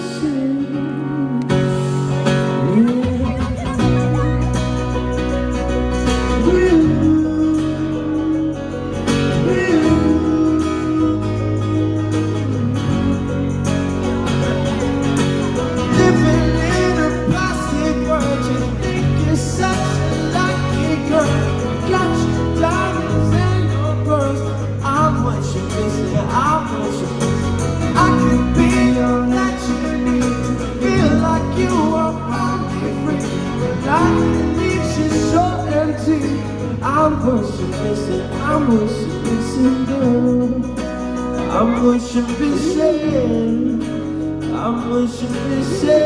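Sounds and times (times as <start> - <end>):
electric guitar: 0.0 - 46.0
person singing: 0.0 - 46.0
pop-rock band playing: 0.0 - 46.0
bass notes: 1.3 - 46.0.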